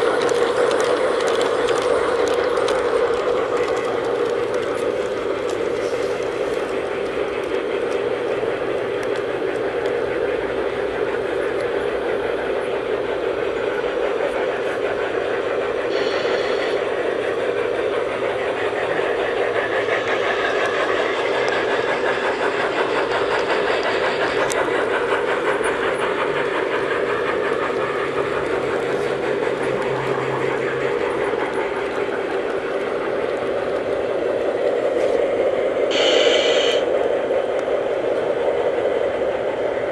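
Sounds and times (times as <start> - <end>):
model train motors whirring: 0.0 - 39.9.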